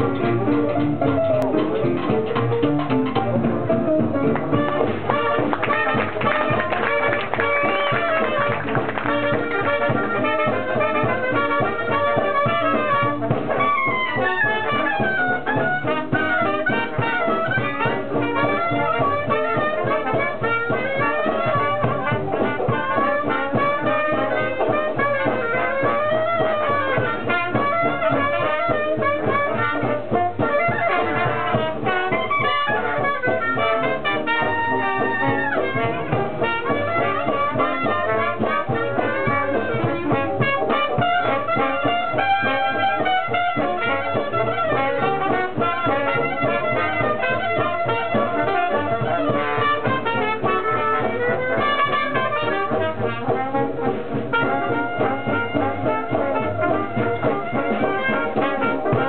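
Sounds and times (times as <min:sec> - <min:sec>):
banjo: 0:00.0 - 0:59.0
clarinet melody: 0:00.0 - 0:59.0
piano accompaniment: 0:00.0 - 0:59.0.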